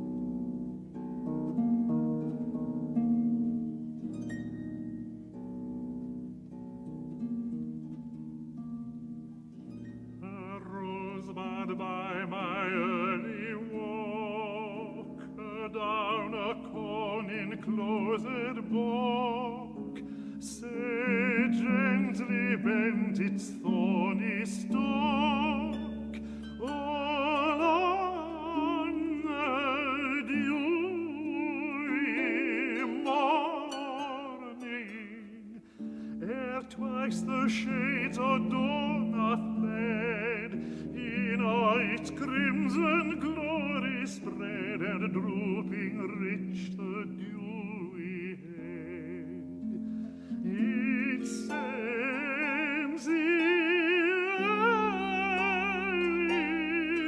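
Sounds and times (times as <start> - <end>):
harp arpeggios: 0.0 - 57.0
tenor singing: 10.1 - 57.0.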